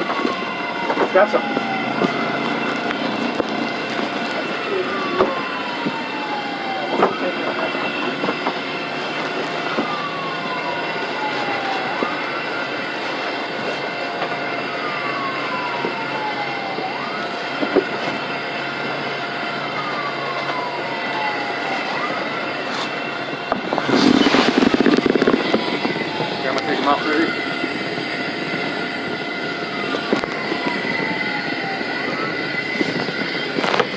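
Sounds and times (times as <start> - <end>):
ambulance siren wailing: 0.0 - 33.9
road and engine rumble: 0.0 - 33.9.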